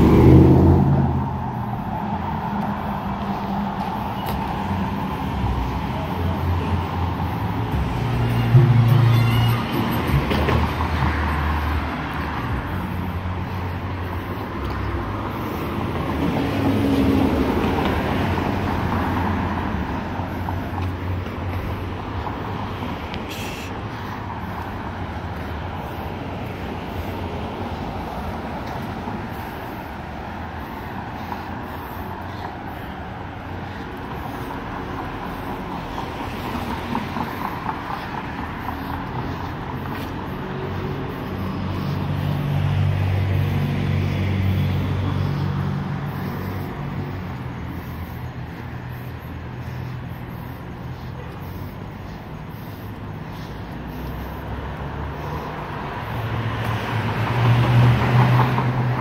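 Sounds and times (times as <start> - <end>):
hum of traffic: 0.0 - 59.0
vehicle passing close: 0.0 - 59.0.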